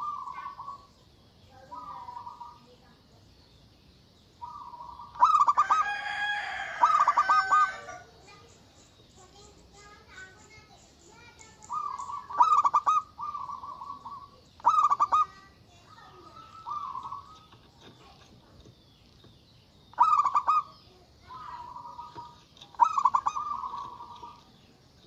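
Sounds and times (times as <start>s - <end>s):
dove cooing: 0.0s - 1.0s, 1.6s - 3.0s, 4.4s - 8.5s, 9.2s - 18.2s, 19.9s - 24.8s.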